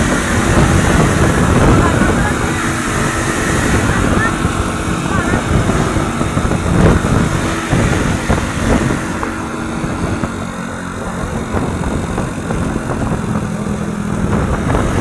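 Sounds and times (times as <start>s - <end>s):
bus engine droning: 0.0s - 15.0s
road noise: 0.0s - 15.0s.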